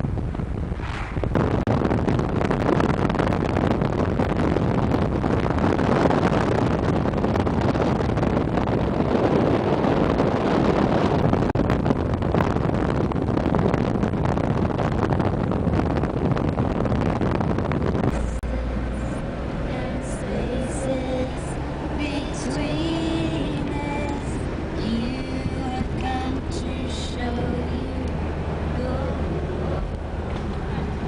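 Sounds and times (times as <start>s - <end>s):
car road noise: 0.0s - 31.0s
wind buffeting microphone: 0.0s - 31.0s
wind rushing: 0.0s - 31.0s.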